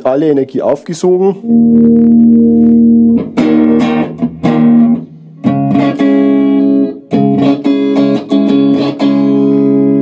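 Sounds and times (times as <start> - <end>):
electric guitar strummed chords: 1.4 - 10.0.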